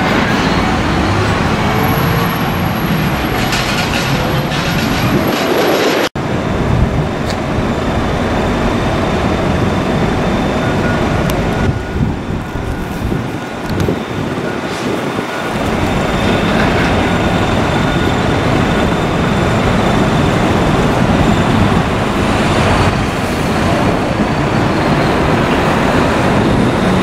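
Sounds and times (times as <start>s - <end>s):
heavy trucks passing close: 0.0s - 27.0s.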